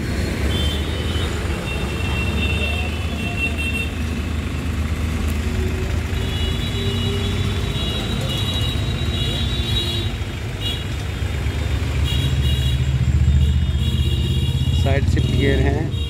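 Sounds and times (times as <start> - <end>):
tractor diesel engine idling: 1.0 - 15.9.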